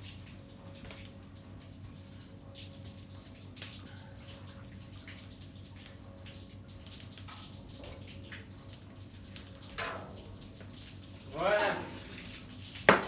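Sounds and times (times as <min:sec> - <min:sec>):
liquid trickling and dripping: 0:00.0 - 0:13.0.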